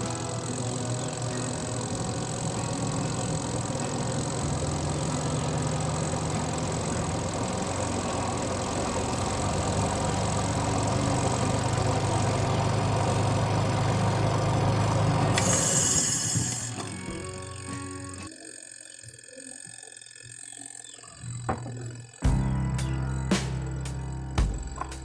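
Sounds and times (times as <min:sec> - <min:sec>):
spin-dryer motor humming: 0:00.0 - 0:25.0.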